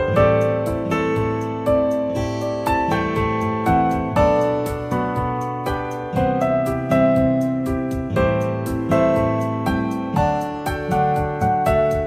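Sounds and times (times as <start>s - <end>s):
light ticking beat: 0.0s - 12.0s
sustained keyboard chords: 0.0s - 12.0s.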